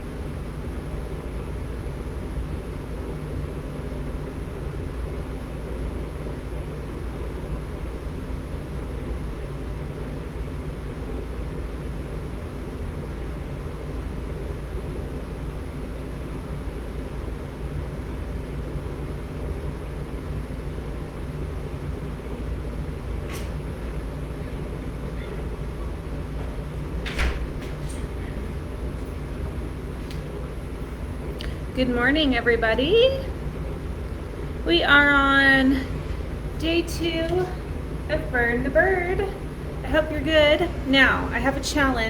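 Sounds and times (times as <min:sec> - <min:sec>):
furnace rumbling: 0:00.0 - 0:42.0.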